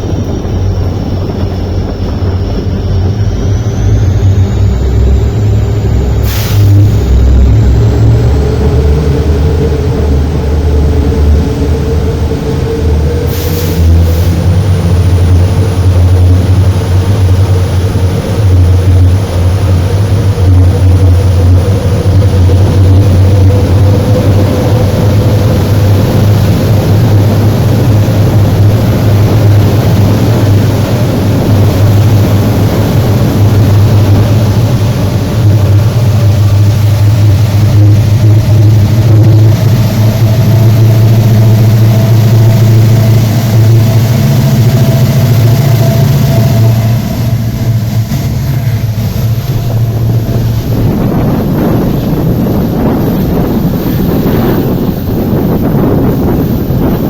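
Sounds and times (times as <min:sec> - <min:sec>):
diesel locomotive engine humming: 0:00.0 - 0:57.0.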